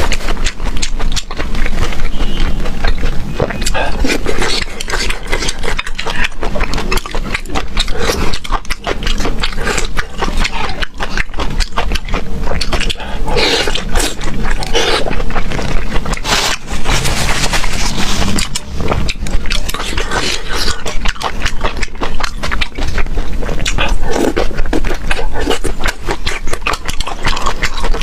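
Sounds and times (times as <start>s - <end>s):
close chewing and crunching: 0.0s - 28.0s.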